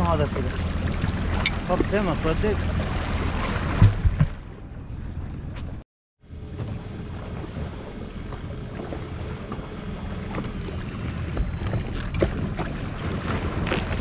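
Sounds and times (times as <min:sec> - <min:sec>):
jet ski engine humming: 0:00.0 - 0:05.6, 0:06.2 - 0:14.0.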